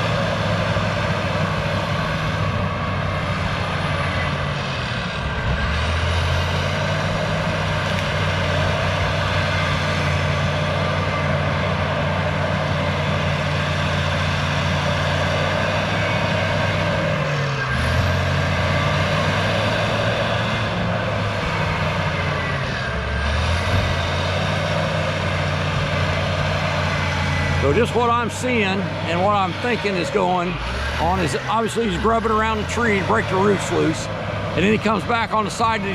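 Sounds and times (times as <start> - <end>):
bulldozer diesel engine under load: 0.0 - 35.9.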